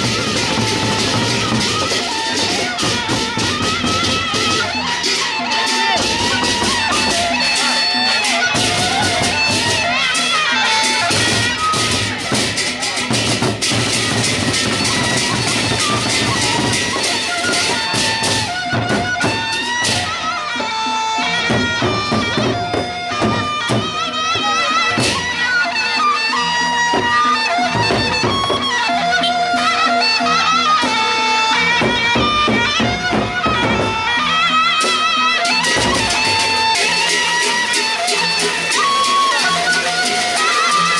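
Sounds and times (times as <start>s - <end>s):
drums and cymbals: 0.0s - 40.9s.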